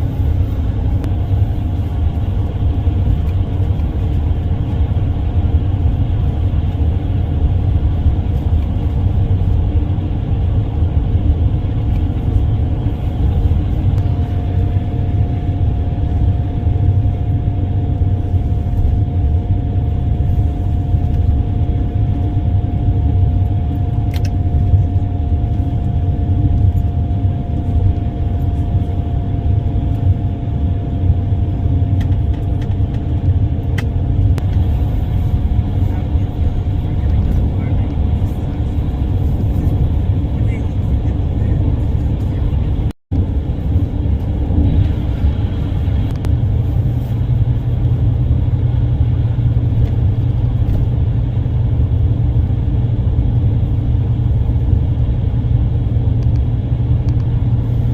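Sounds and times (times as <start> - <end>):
road vehicle rumble: 0.0 - 57.9.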